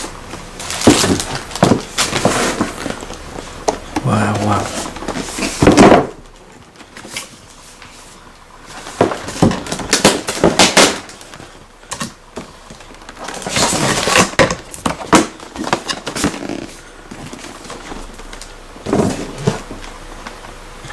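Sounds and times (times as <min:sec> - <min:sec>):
cardboard and plastic rustling: 0:00.0 - 0:20.9.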